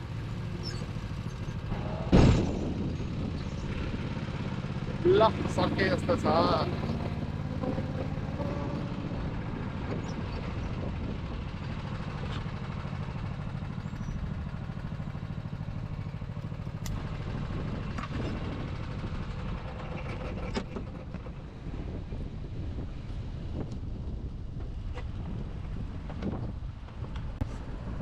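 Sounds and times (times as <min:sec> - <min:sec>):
go-kart engine running: 0:00.0 - 0:28.0.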